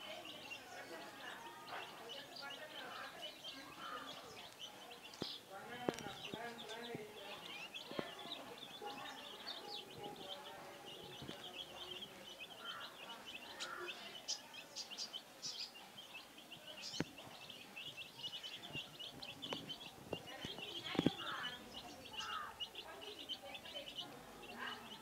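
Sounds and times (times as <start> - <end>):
chicks peeping: 0.1 - 25.0.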